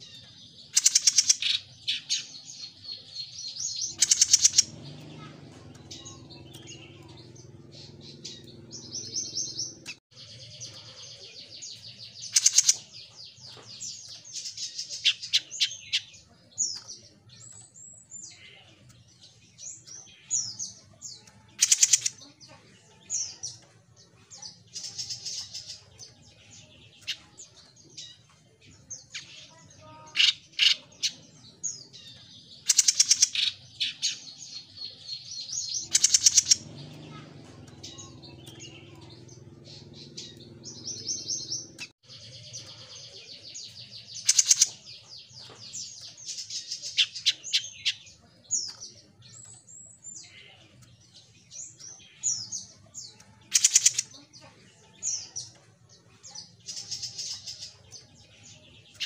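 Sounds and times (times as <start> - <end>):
songbird chirping and trilling: 0.0 - 59.0.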